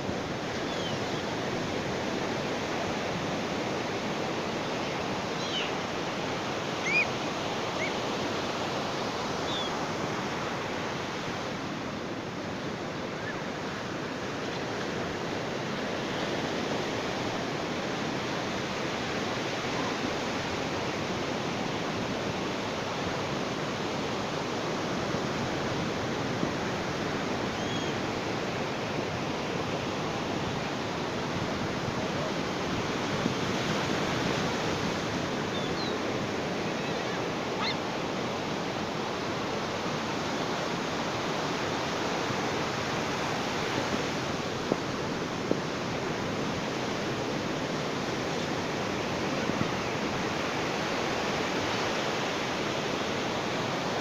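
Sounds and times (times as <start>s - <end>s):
ocean surf washing on beach: 0.0s - 54.0s.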